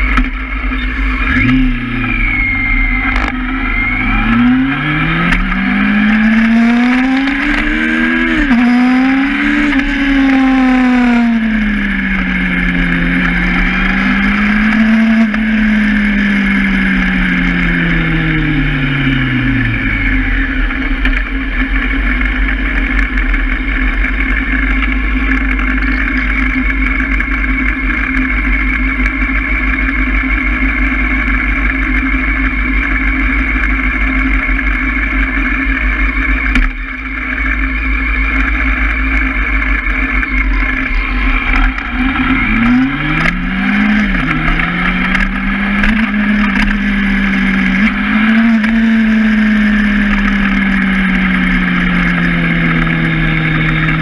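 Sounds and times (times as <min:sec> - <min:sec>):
motorcycle engine slowing then idling: 0:00.0 - 0:54.0.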